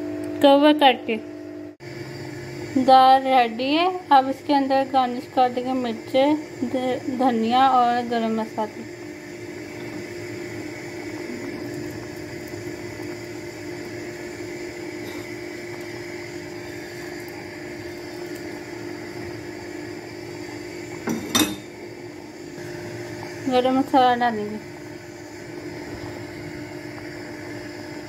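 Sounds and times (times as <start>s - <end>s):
mechanical hum: 0.0s - 28.0s.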